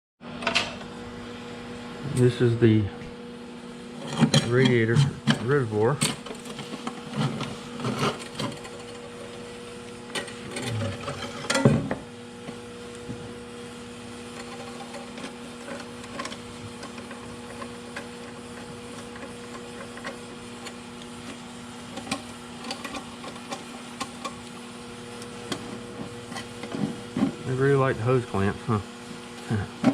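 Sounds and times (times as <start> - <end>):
steady mechanical hum: 0.2 - 29.9.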